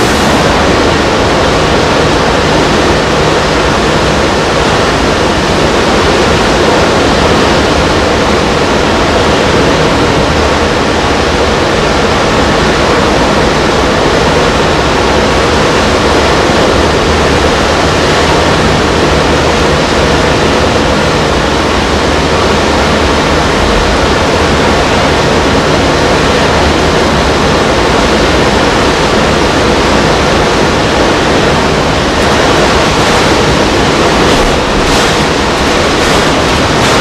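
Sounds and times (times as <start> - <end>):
heavy surf breaking: 0.0 - 37.0.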